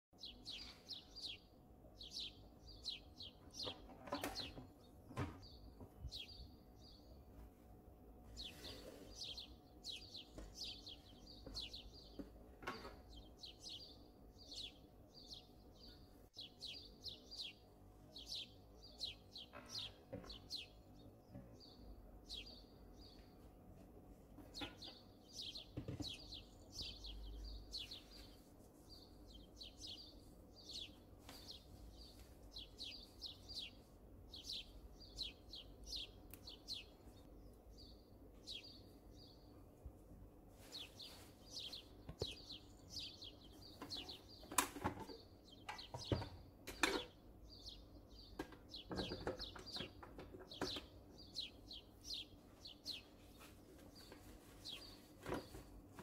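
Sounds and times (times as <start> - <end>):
birds chirping: 0.2 - 56.0.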